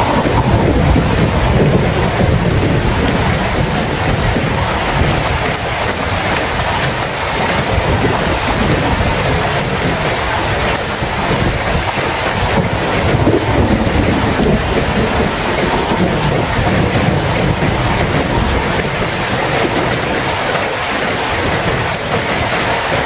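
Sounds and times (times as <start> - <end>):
continuous low rumble: 0.0 - 23.0
heavy rain: 0.0 - 23.0.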